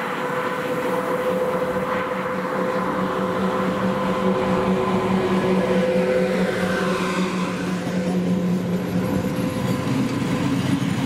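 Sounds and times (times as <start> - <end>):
freight train whining hum: 0.0 - 11.0.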